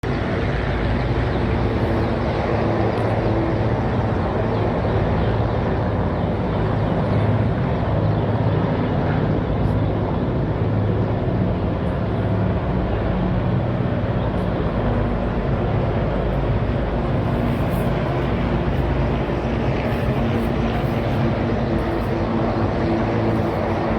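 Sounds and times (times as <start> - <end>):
helicopter engine and rotor: 0.0 - 23.9.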